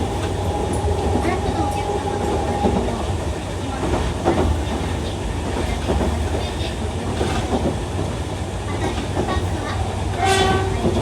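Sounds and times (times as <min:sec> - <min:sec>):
electric train rolling rumble: 0:00.0 - 0:11.0.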